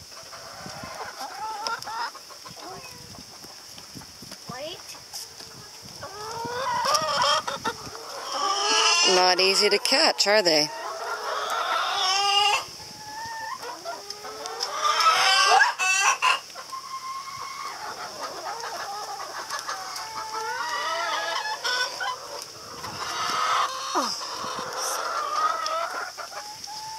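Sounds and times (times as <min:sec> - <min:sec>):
hens clucking and squawking: 0:00.0 - 0:26.9.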